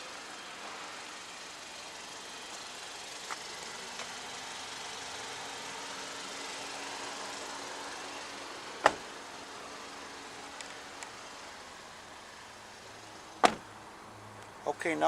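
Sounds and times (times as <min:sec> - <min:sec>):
car engine idling: 0:01.0 - 0:14.2.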